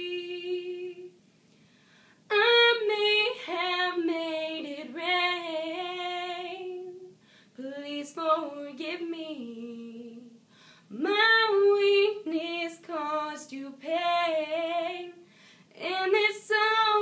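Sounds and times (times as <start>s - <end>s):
woman singing unaccompanied: 0.0s - 1.2s, 2.3s - 17.0s.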